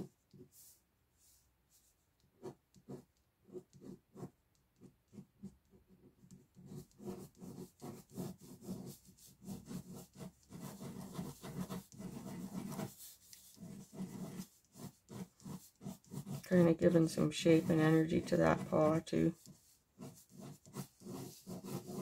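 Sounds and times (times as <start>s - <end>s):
pen scratching on paper: 0.0s - 22.0s.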